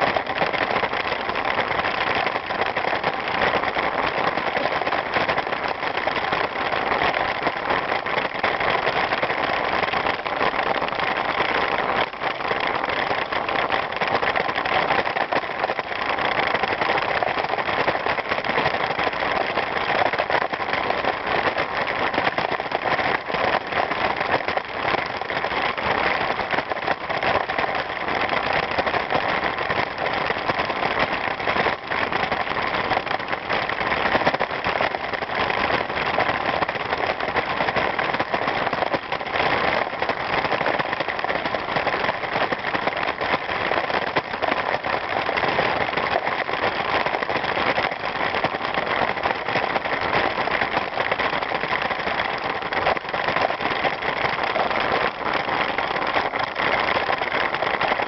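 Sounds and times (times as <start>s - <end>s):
bicycle tyres rolling: 0.0s - 58.0s.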